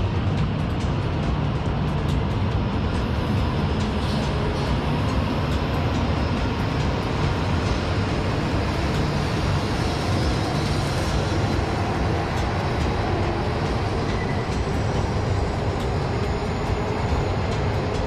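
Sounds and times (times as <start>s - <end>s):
train cars passing: 0.0s - 18.0s.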